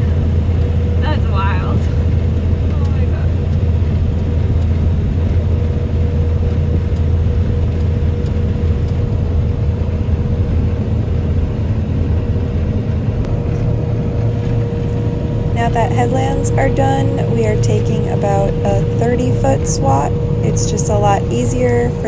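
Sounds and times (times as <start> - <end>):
constant machine whine: 0.0 - 22.0
low engine drone: 0.0 - 22.0.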